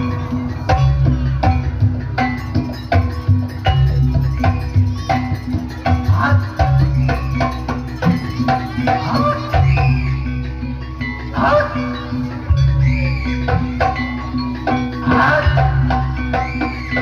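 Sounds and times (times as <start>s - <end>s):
hand drums: 0.0s - 17.0s
struck pitched percussion: 0.0s - 17.0s.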